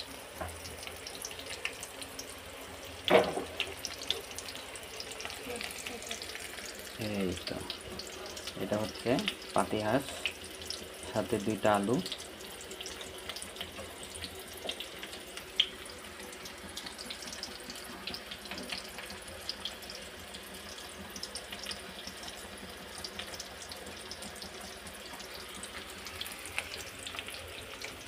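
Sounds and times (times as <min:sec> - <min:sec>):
onions sizzling in oil: 0:00.0 - 0:28.0.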